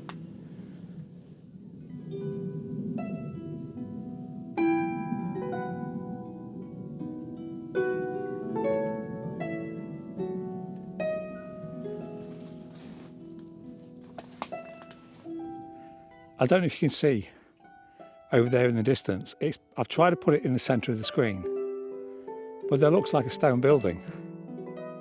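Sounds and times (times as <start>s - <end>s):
harp playing slow notes: 1.9s - 16.4s, 17.6s - 25.0s.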